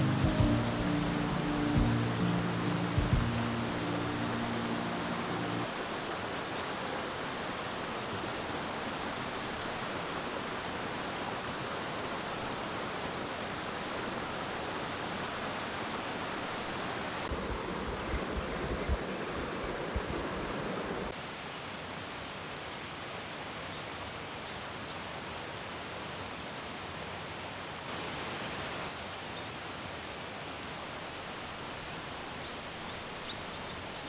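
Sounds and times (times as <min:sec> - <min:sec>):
stream rushing over boulders: 0:00.0 - 0:34.0.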